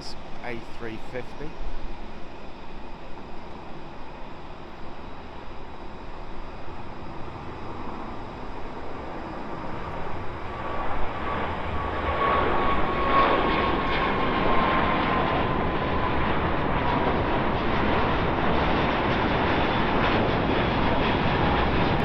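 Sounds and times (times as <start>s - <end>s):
jet engine whine: 0.0s - 22.0s
jet engines rumbling: 0.0s - 22.0s.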